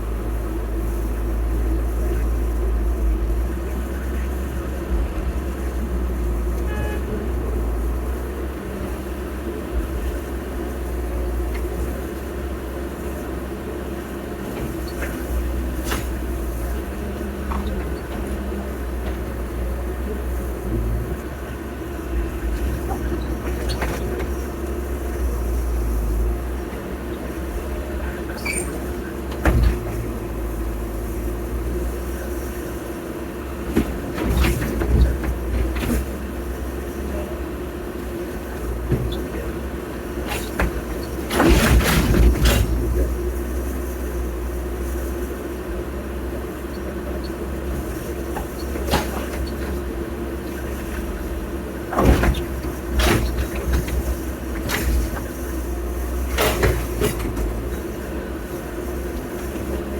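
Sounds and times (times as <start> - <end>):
heavy machinery diesel engine running: 0.0 - 59.9.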